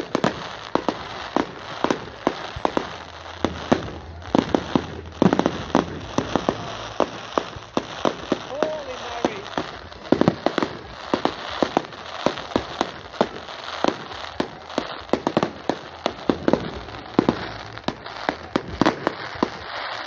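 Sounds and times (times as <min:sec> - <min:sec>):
fireworks bangs and pops: 0:00.0 - 0:20.0
fireworks crackle: 0:00.0 - 0:20.0.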